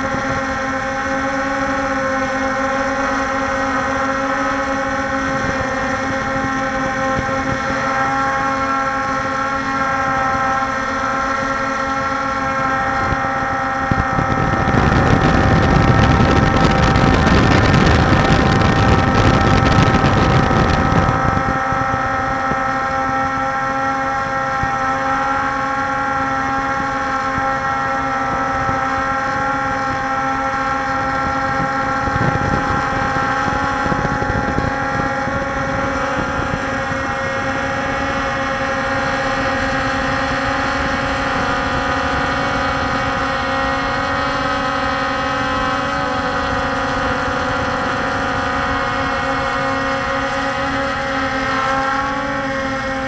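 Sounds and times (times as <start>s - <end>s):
quadcopter propellers whining: 0.0s - 53.0s.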